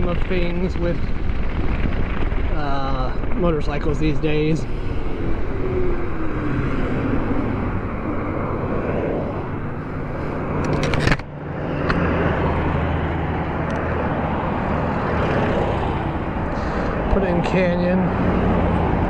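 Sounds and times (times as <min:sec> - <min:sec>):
road noise: 0:00.0 - 0:19.0
wind buffeting microphone: 0:00.0 - 0:19.0.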